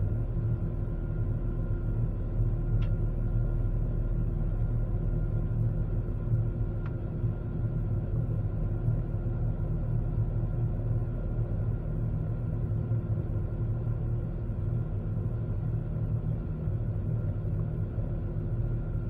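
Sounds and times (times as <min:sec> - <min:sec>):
airplane cabin rumble: 0:00.0 - 0:19.0
faint steady hum: 0:00.0 - 0:19.0.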